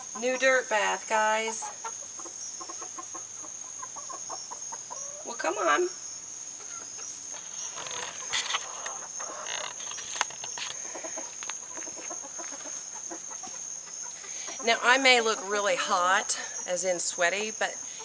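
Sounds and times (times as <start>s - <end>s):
hens clucking quietly: 0.0s - 5.9s, 6.5s - 18.0s
crickets chirping: 0.0s - 18.0s.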